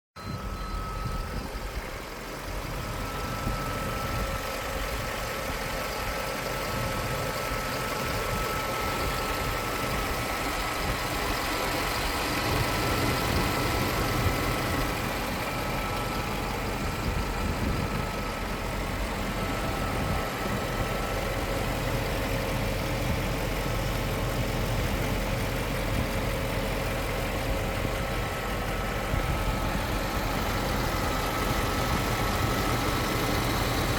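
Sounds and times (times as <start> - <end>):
car engine idling: 0.2 - 33.9.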